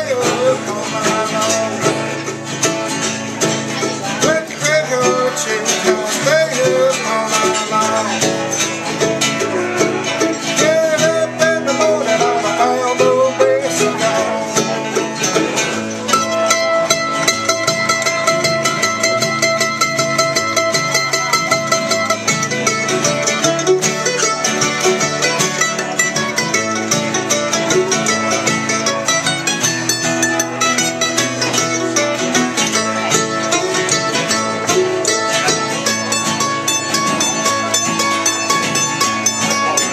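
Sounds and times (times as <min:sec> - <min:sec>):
bluegrass banjo and guitar picking: 0:00.0 - 0:39.9.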